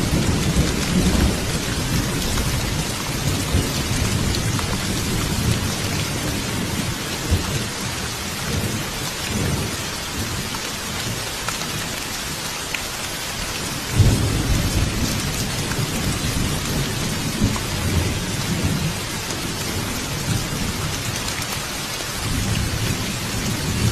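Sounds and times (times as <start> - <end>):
rain falling in woods: 0.0 - 23.9.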